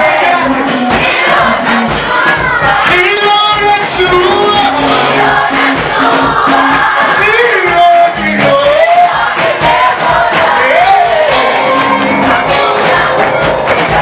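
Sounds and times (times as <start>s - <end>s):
drum beat: 0.0s - 14.0s
voices singing a melody: 0.0s - 14.0s.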